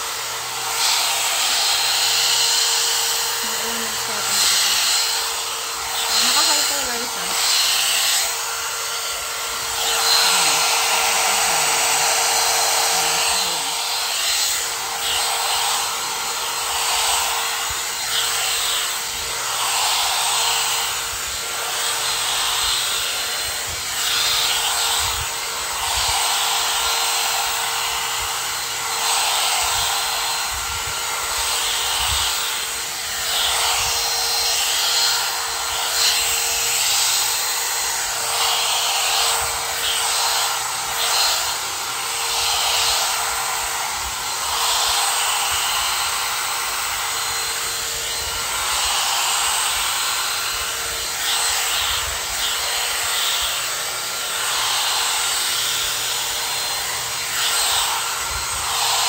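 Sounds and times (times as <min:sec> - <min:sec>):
hot air brush running: 0:00.0 - 0:59.0.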